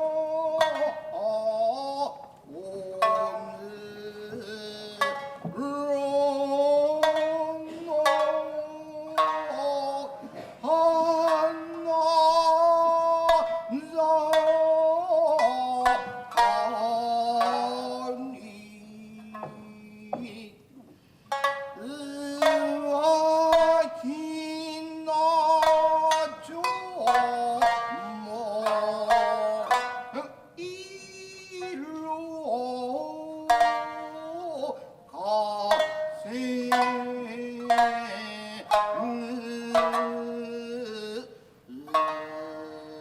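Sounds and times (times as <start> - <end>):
person singing long notes: 0.0 - 43.0
shamisen plucking: 0.0 - 43.0.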